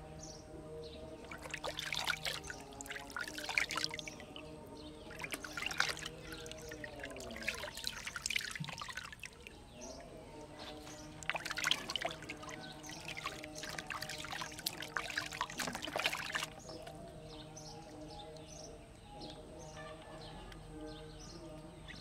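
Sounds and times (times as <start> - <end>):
water splashing in a plastic basin: 1.1 - 19.5.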